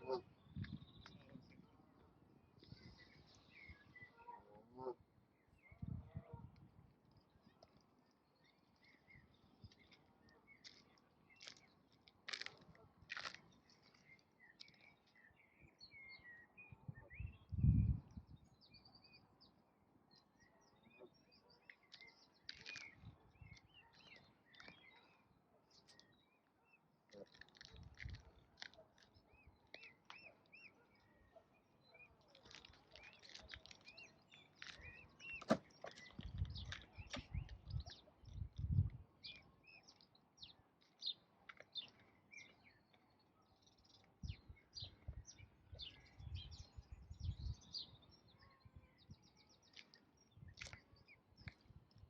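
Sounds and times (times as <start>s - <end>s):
small birds chirping: 7.1s - 52.0s.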